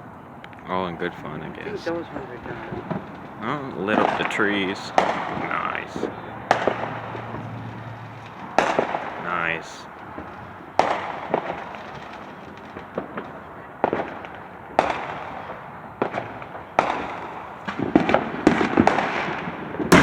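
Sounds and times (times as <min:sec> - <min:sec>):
fireworks bangs: 0:00.0 - 0:20.0
fireworks pops and crackles: 0:00.4 - 0:20.0.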